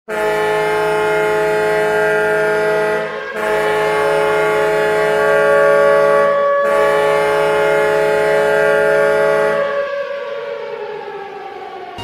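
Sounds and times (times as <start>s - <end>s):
arena goal horn: 0.1s - 9.8s.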